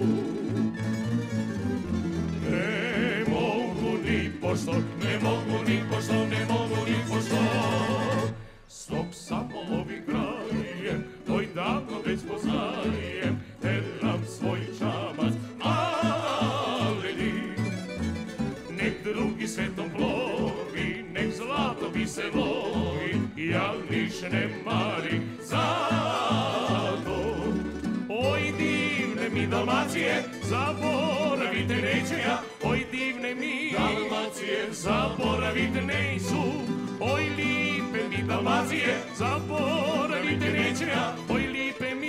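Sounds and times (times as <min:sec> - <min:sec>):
men singing: 0:02.4 - 0:18.0, 0:18.6 - 0:42.0.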